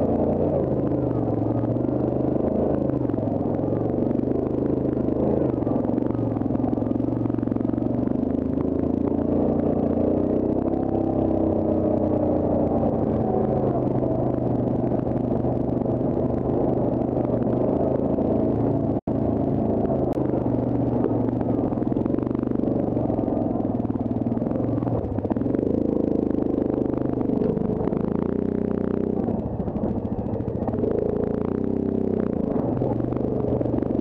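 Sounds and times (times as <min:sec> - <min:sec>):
quad bike engine at low speed: 0:00.0 - 0:34.0.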